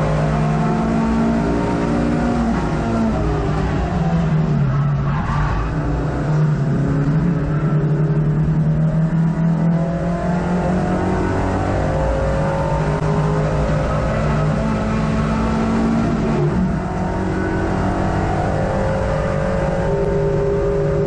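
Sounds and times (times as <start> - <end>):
race car engine from inside cabin: 0.0 - 21.0.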